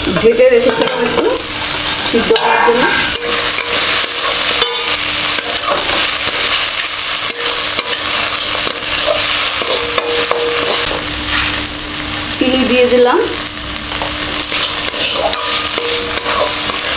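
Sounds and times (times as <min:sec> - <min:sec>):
vegetables sizzling in a wok: 0:00.0 - 0:16.9
metal spatula scraping wok: 0:00.2 - 0:11.7, 0:14.2 - 0:16.9.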